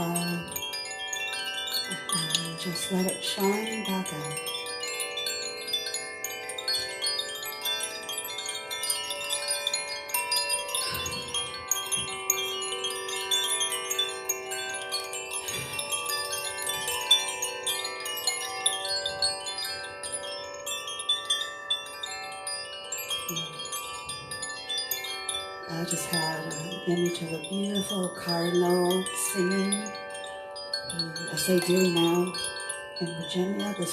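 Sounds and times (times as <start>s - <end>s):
wind chimes ringing: 0.0s - 33.9s.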